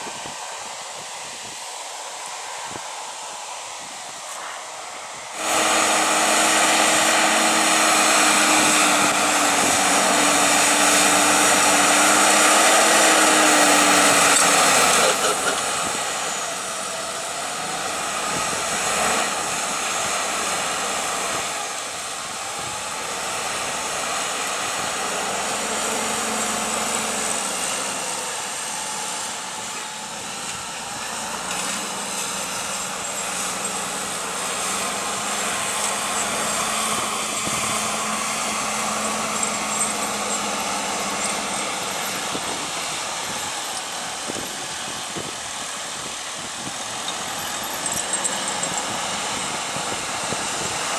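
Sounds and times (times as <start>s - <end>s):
high whine: 0.0s - 50.9s
tractor diesel engines under load: 0.0s - 50.9s.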